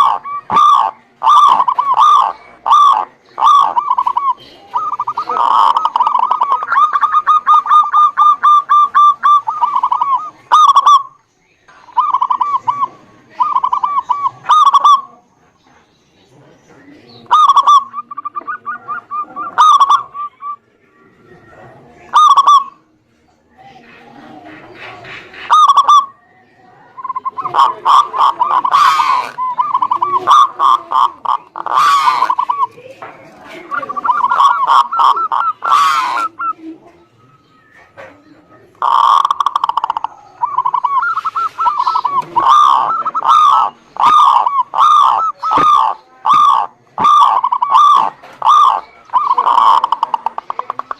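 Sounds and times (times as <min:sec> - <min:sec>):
dove cooing: 0:00.0 - 0:15.3, 0:16.8 - 0:22.9, 0:23.6 - 0:50.9.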